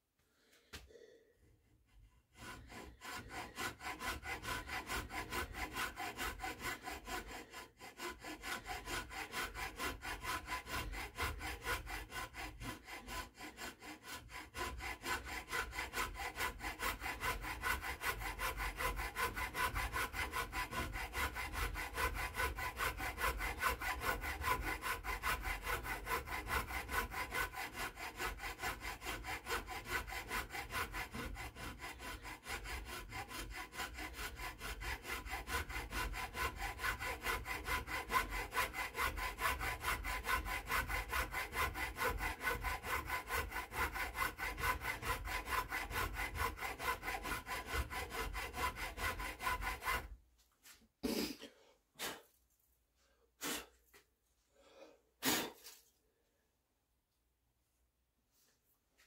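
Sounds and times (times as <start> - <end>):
file rasping on wood: 1.8 - 50.2.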